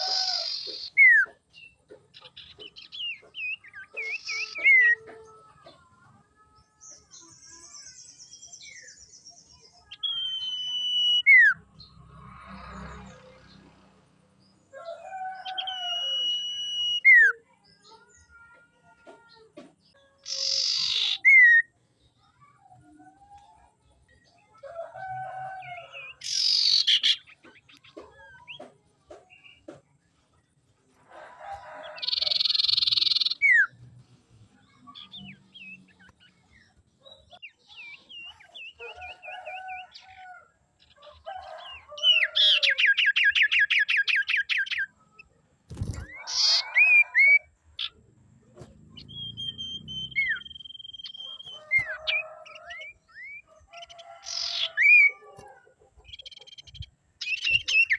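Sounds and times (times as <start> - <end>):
bird song and calls: 0.0 - 13.5, 14.4 - 29.9, 31.5 - 57.9.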